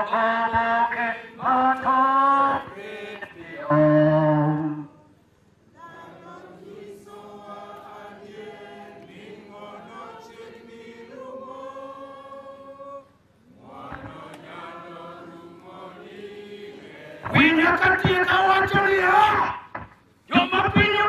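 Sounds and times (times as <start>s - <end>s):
group of voices singing a hymn: 0.0s - 4.8s, 5.7s - 18.8s.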